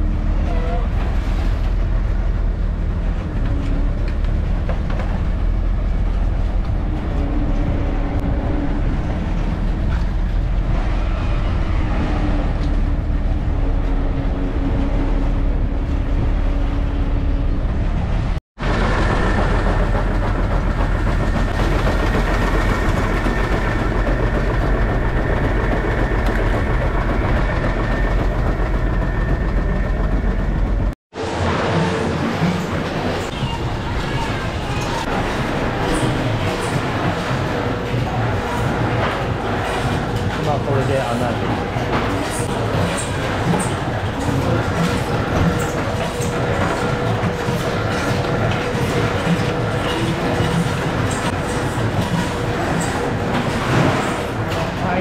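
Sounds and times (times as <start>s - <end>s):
boat engine low rumble: 0.0s - 55.0s.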